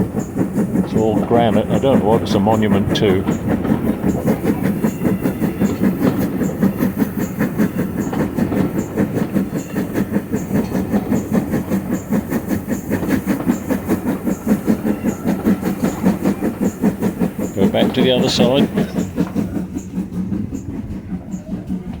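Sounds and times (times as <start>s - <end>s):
steam locomotive exhaust beating: 0.0s - 22.0s
wheels clattering on rails: 0.0s - 22.0s.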